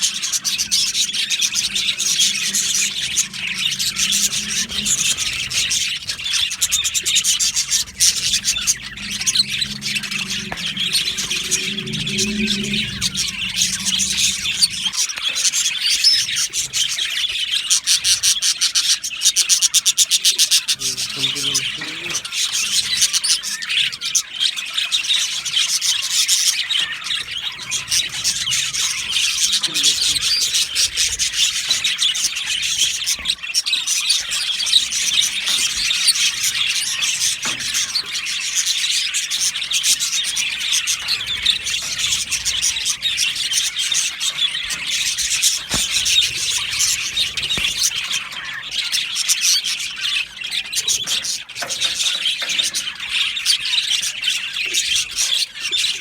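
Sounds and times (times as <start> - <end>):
budgerigars chattering: 0.0 - 56.0
fast clicking chatter: 0.0 - 56.0.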